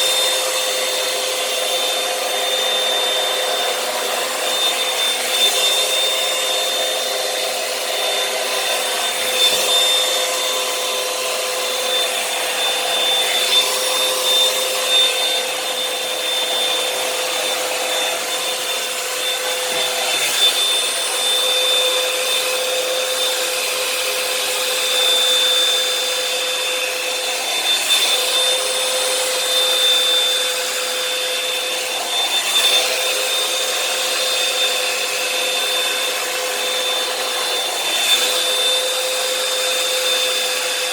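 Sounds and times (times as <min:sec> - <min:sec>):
hair dryer brush blowing: 0:00.0 - 0:40.9.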